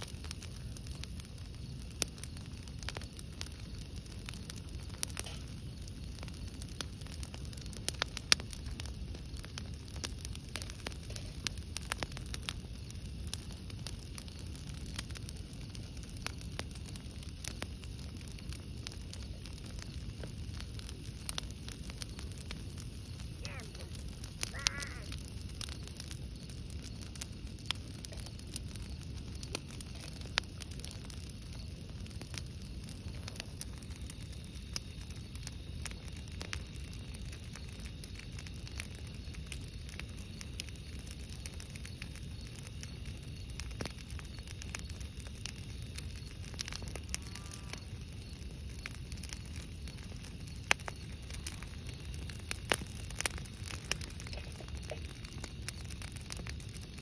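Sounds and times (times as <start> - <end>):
bonfire crackling and popping: 0.0 - 57.0
fire low rumble: 0.0 - 57.0.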